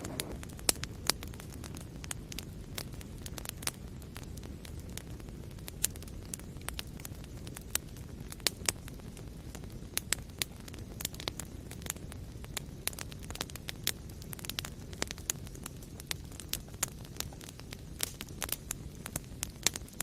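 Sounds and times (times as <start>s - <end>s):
burning wood crackling and popping: 0.0s - 20.0s
fire low rumble: 0.0s - 20.0s.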